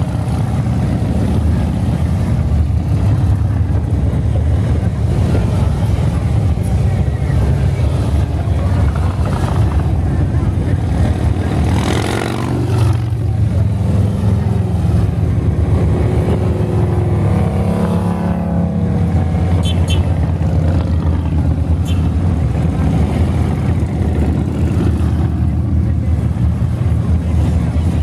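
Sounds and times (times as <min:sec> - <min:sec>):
motorcycles rumbling past: 0:00.0 - 0:28.0.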